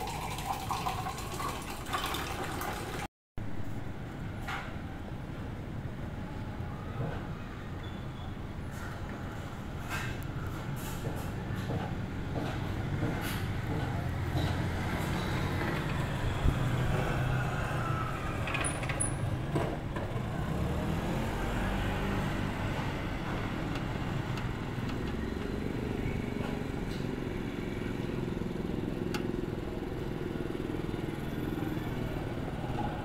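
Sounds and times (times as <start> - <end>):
road traffic rumble: 3.5 - 33.0.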